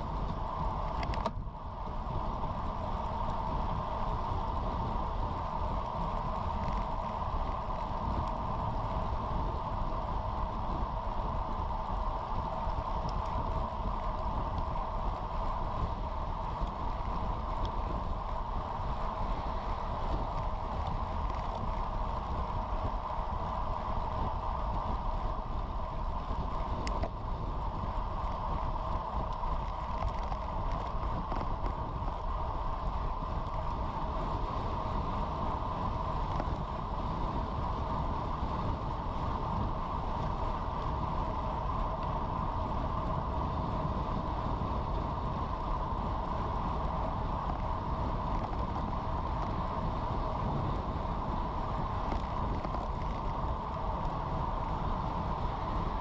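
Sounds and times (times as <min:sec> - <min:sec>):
tyres humming on asphalt: 0:00.0 - 0:56.0
wind rush: 0:00.0 - 0:56.0.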